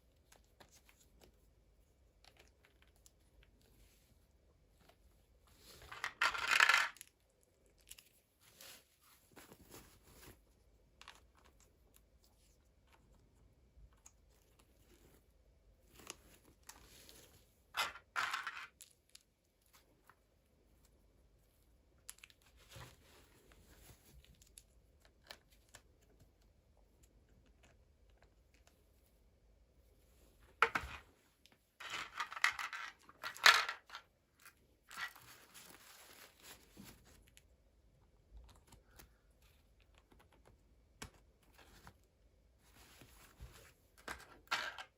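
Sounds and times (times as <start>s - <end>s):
faint handling noises: 0.1s - 44.9s.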